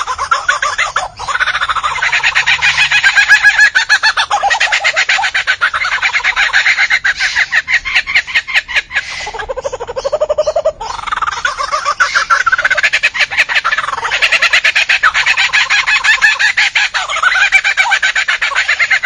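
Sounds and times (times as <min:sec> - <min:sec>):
lyrebird singing: 0:00.0 - 0:19.0.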